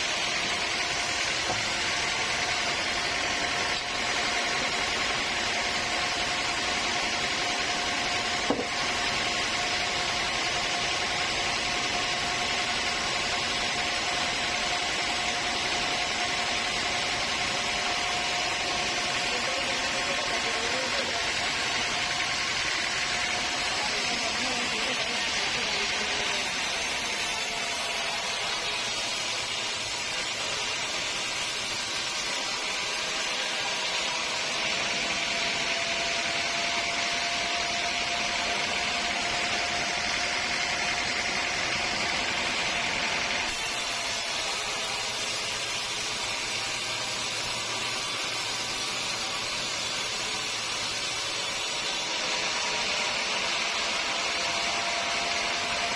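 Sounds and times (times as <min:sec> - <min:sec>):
saw cutting through log: 0:00.0 - 0:55.9.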